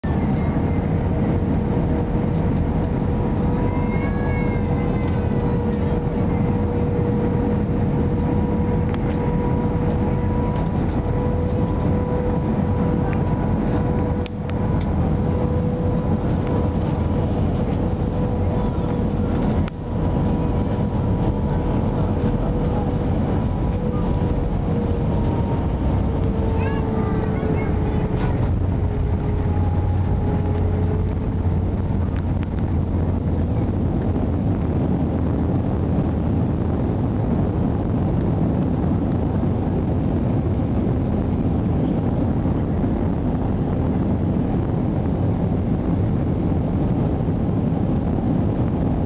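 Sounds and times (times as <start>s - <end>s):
jet engines roaring: 0.0s - 49.0s
steady whine: 0.0s - 49.0s.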